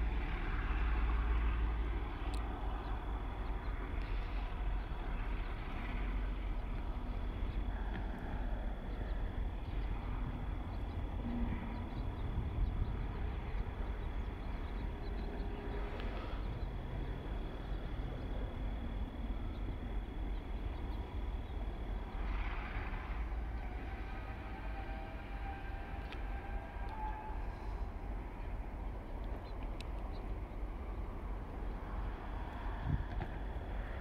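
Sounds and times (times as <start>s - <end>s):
distant diesel locomotives rumbling: 0.0s - 34.0s.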